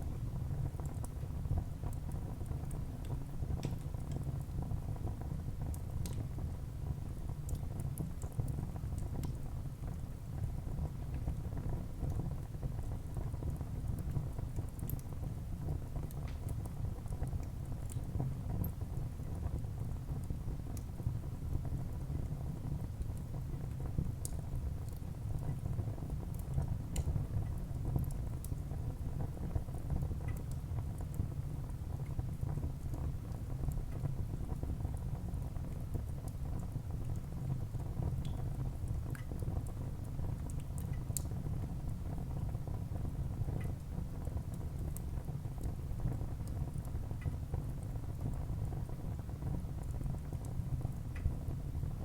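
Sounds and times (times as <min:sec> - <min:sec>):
fire crackles and pops: 0:00.0 - 0:52.0
low rumble of flames: 0:00.0 - 0:52.0.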